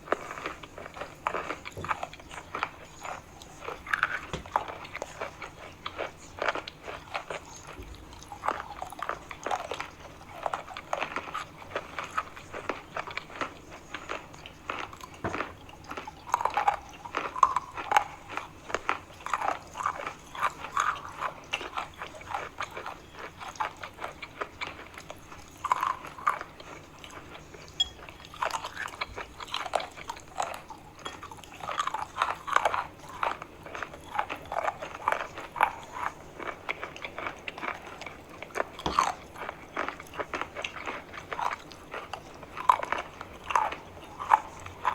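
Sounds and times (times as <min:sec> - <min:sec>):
person chewing chalk: 0:00.0 - 0:44.9.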